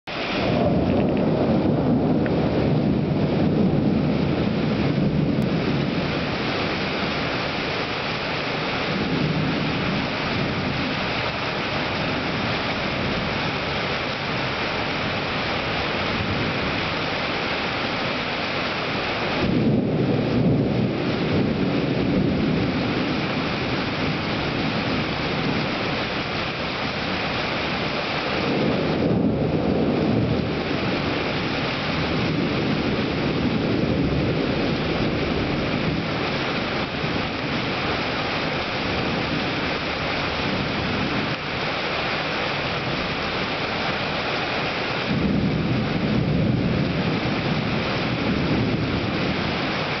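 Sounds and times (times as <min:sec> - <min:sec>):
heavy rain: 0:00.0 - 0:50.0
thunder rumbling: 0:00.1 - 0:50.0.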